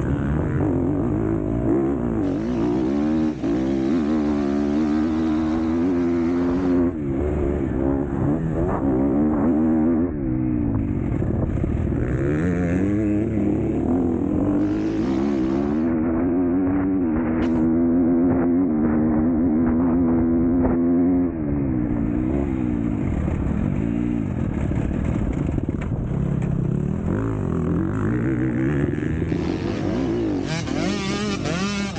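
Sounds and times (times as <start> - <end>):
motocross bike engine revving: 0.0 - 31.9.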